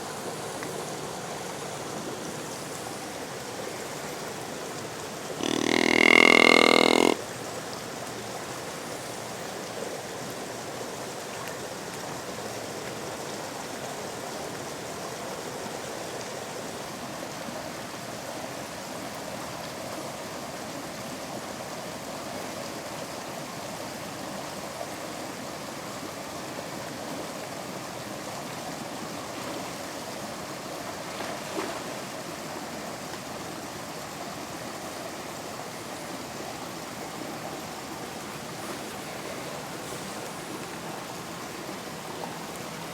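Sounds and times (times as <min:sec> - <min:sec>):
running water: 0:00.0 - 0:19.6, 0:24.8 - 0:42.9
rain in woods: 0:00.0 - 0:42.9.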